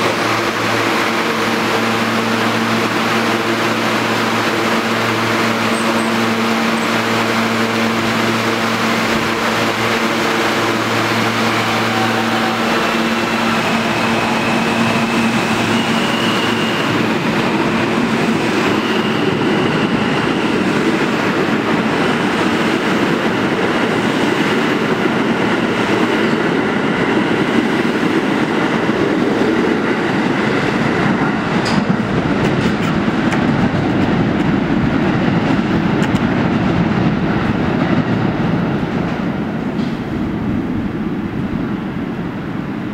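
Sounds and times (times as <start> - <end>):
subway train hum and whine: 0.0 - 42.9
train wheels running on rails: 0.0 - 42.9.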